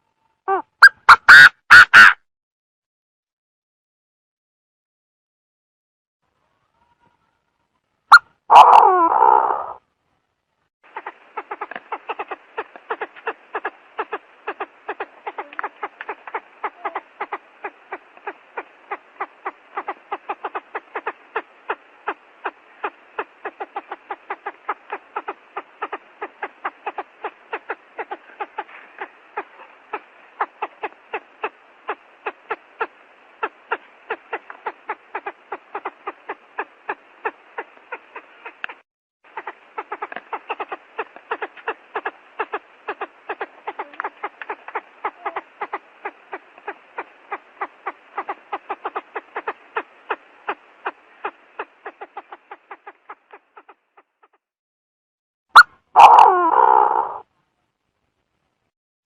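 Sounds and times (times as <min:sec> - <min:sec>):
quail calling: 0:00.5 - 0:02.2, 0:08.1 - 0:09.8, 0:10.9 - 0:54.3, 0:55.6 - 0:57.2.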